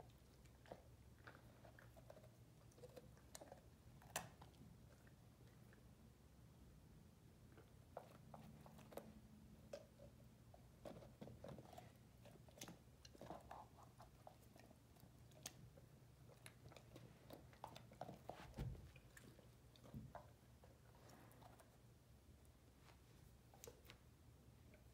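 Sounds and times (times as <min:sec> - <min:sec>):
puppy chewing carrot: 0:00.0 - 0:06.1, 0:07.3 - 0:22.5.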